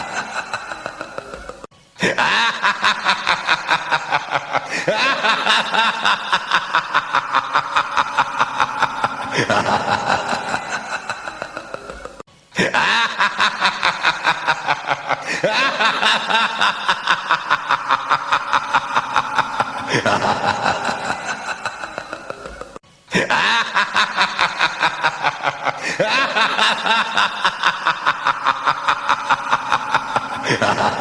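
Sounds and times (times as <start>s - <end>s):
recorded laughter ringtone: 0.0s - 31.0s.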